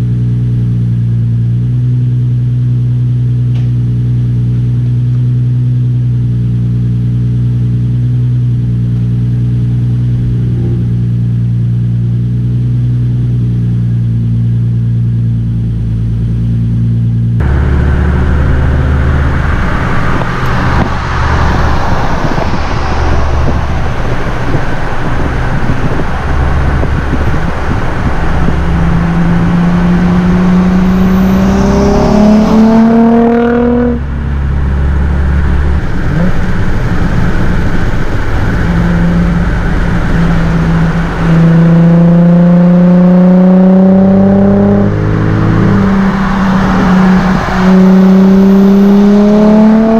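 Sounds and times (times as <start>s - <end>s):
car engine droning: 0.0s - 49.9s
road and wind noise: 0.0s - 49.9s.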